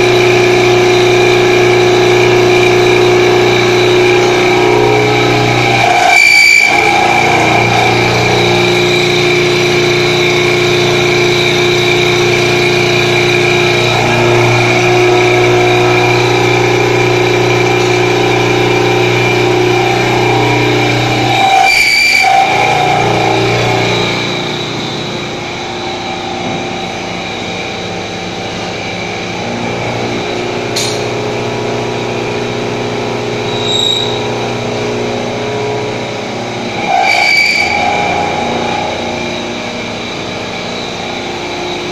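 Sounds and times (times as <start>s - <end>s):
milling machine cutting metal: 0.0s - 41.9s.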